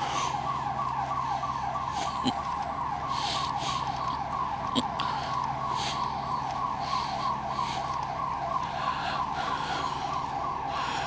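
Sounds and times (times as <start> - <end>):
security alarm siren warbling: 0.0 - 11.0.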